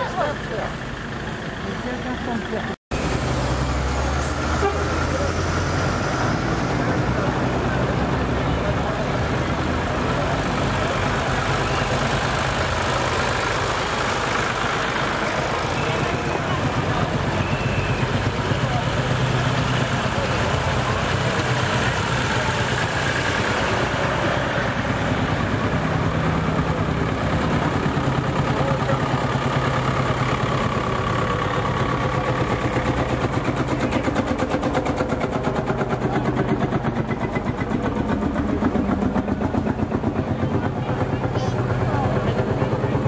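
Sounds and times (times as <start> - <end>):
tractor engines running: 0.0 - 43.0.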